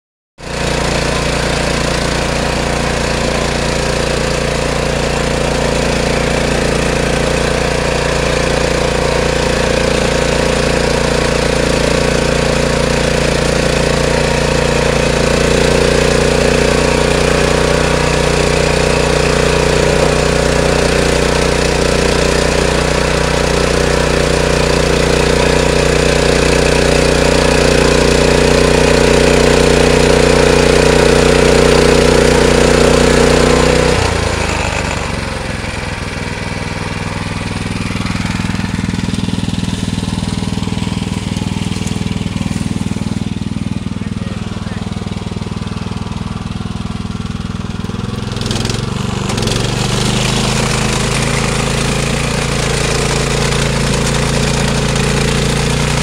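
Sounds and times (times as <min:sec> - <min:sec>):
tiller engine running: 0:00.4 - 0:56.0
tines churning soil: 0:00.4 - 0:56.0.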